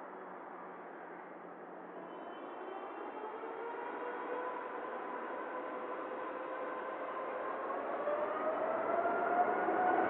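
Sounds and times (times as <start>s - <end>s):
jet engines running with whine: 0.0s - 10.0s.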